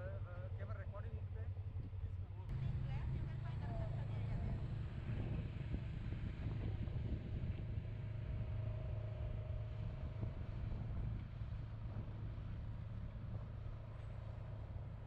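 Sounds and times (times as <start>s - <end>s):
car engine hum and road noise: 0.0s - 15.0s.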